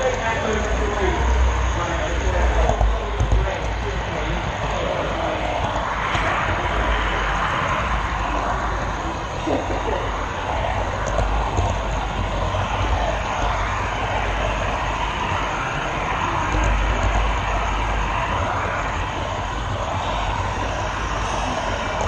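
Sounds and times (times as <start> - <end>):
model train whirring: 0.0 - 22.0.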